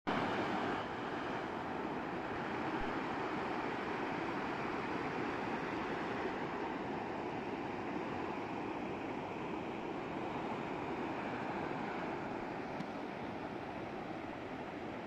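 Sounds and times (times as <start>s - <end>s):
water rushing over weir: 0.1s - 15.0s.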